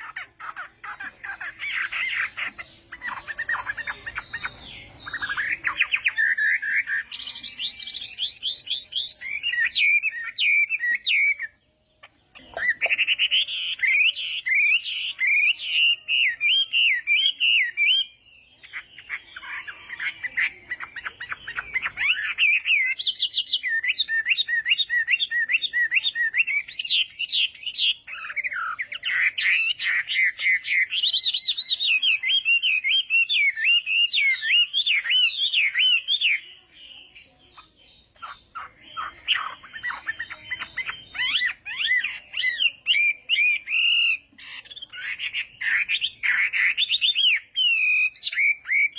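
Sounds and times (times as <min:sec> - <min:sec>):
bird singing whistled phrases: 0:01.4 - 0:48.9.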